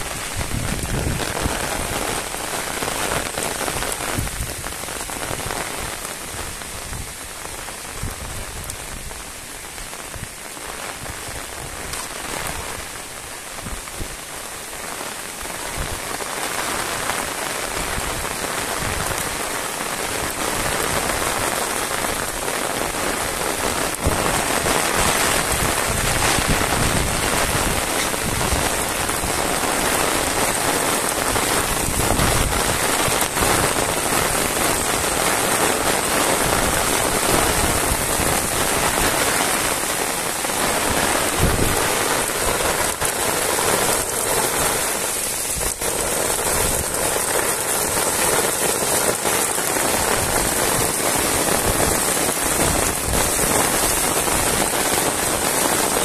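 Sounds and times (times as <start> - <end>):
heavy rain on road: 0.0 - 56.0.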